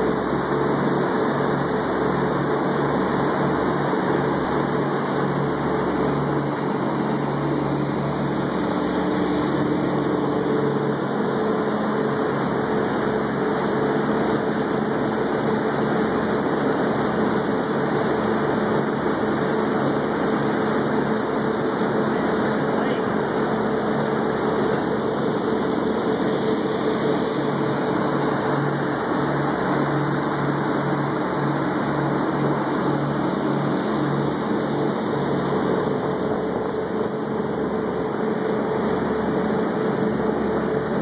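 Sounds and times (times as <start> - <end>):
boat engines droning: 0.0 - 41.0
wake water rushing: 0.0 - 41.0
wind: 0.0 - 41.0.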